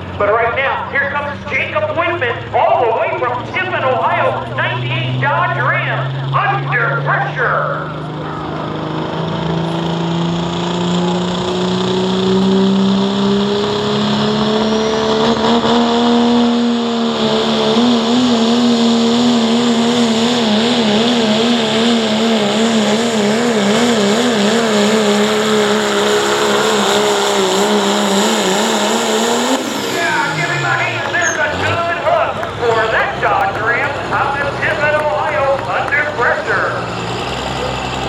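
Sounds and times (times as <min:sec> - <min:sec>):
diesel engine at full power: 0:00.0 - 0:38.0.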